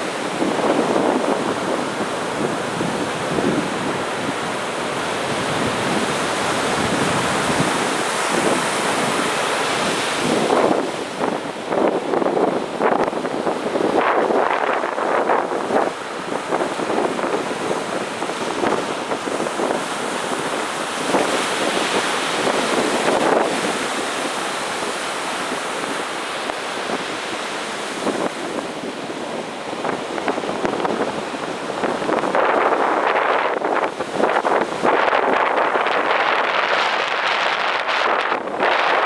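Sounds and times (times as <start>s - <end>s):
surf waves breaking on beach: 0.0s - 39.0s.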